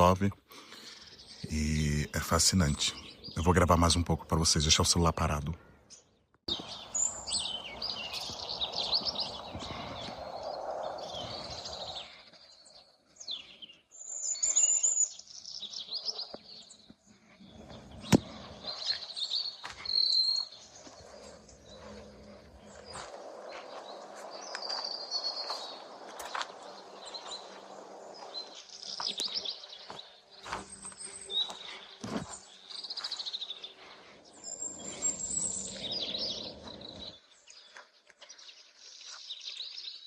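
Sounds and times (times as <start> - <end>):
birds chirping and trilling: 0.0 - 40.0.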